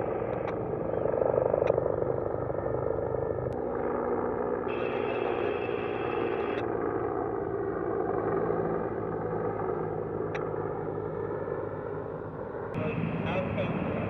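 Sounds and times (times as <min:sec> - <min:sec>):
helicopter rotor and engine drone: 0:00.0 - 0:14.0.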